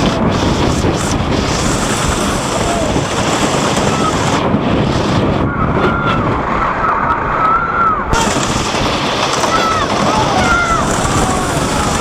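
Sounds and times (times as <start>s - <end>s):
roller coaster rattling rumble: 0.0s - 12.0s
wind buffeting microphone: 0.0s - 12.0s.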